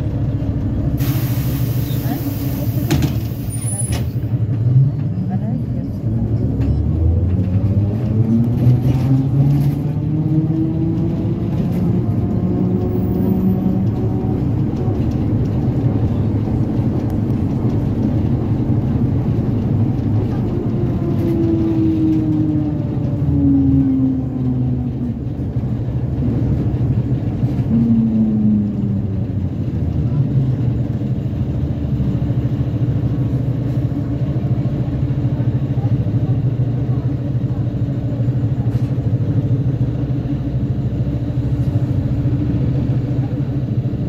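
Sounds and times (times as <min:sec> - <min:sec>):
road rumble: 0:00.0 - 0:44.0
trolleybus drive whining: 0:00.0 - 0:44.0.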